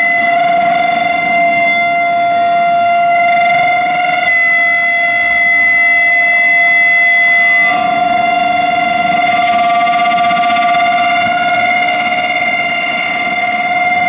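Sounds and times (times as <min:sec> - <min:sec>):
high-pitched machine whine: 0:00.0 - 0:14.0.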